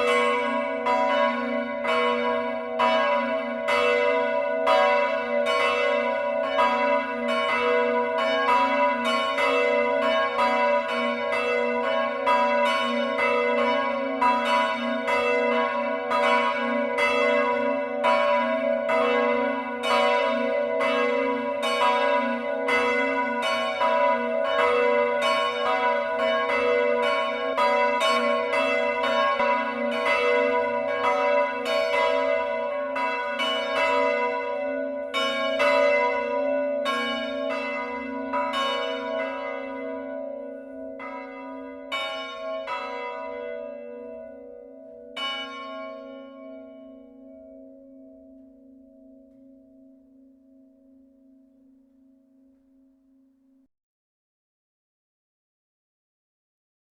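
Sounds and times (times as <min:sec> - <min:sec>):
church bells pealing: 0:00.0 - 0:52.6.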